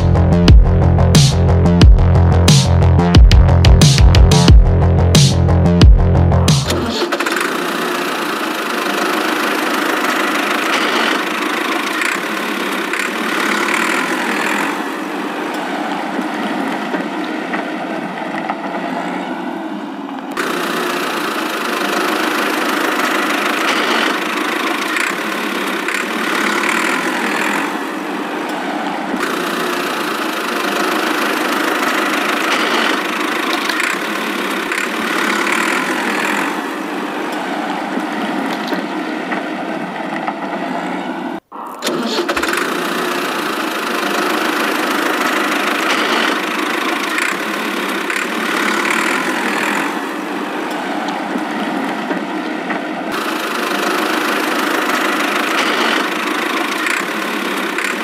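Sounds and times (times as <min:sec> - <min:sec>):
engine idling: 0:00.0 - 0:18.8, 0:19.8 - 0:58.0.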